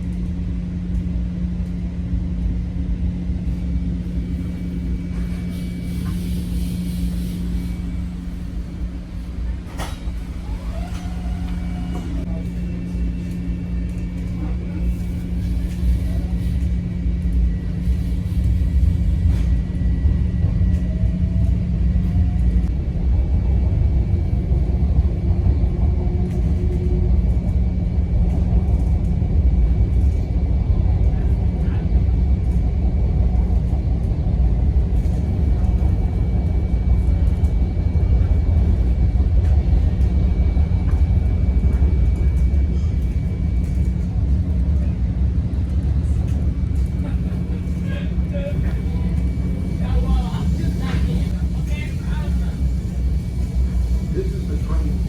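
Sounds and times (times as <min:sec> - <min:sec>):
low hum: 0:00.0 - 0:55.0
train rumbling along track: 0:00.0 - 0:55.0.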